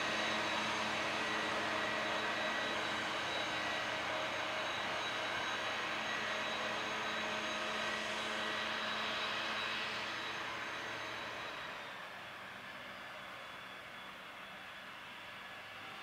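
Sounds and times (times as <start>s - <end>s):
track machine engine drone: 0.0s - 13.5s.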